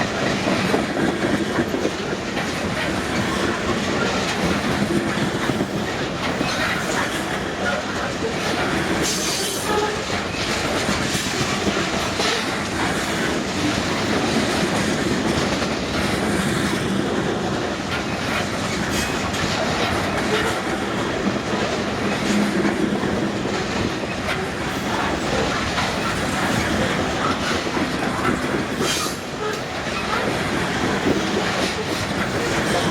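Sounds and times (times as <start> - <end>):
steel wheels on rail: 0.0 - 32.9.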